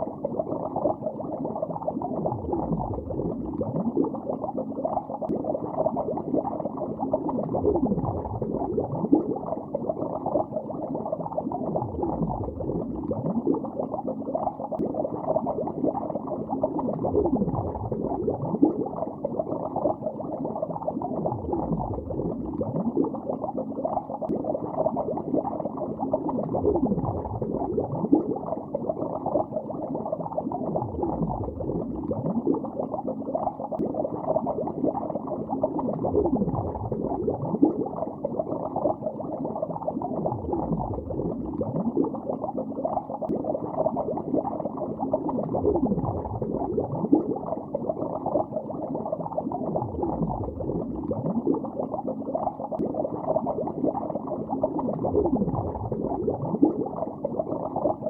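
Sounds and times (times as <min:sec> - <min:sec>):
underwater bubbling: 0:00.0 - 0:58.0.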